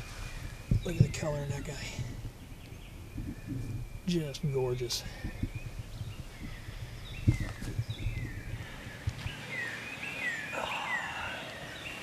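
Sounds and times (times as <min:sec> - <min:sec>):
songbirds whistling: 0:00.0 - 0:12.0.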